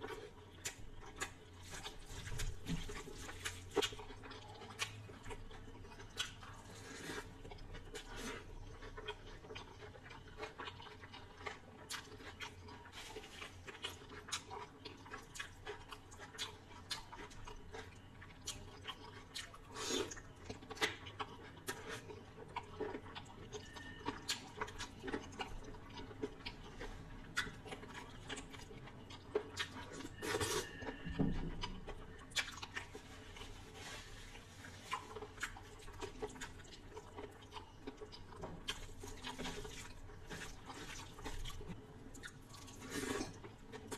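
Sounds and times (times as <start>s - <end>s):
wet chewing sounds: 0.0s - 43.9s.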